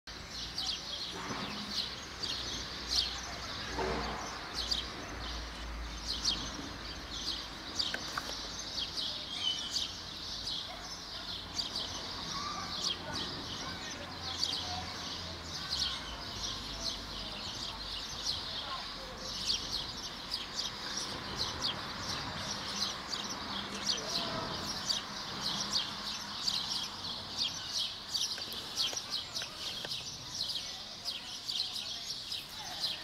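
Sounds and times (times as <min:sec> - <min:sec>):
small birds chirping: 0:00.1 - 0:33.0.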